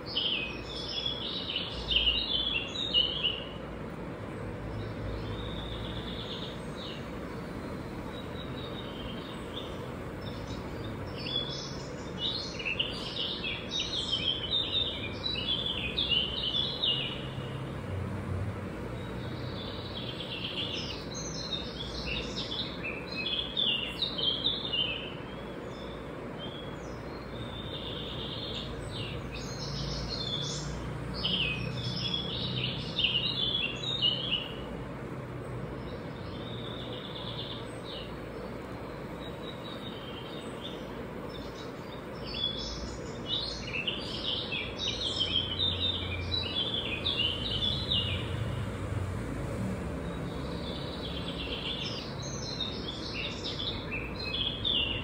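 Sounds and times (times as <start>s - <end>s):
low background noise: 0.0s - 55.0s
songbird chirping: 0.0s - 55.0s.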